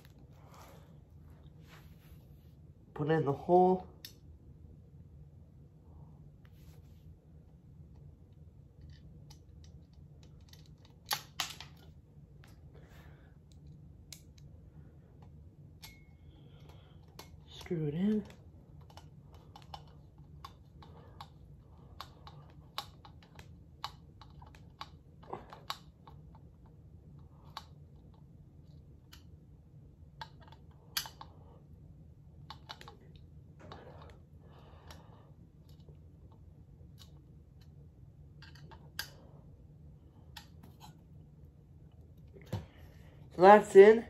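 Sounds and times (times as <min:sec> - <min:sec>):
faint low hum: 0:00.0 - 0:44.0.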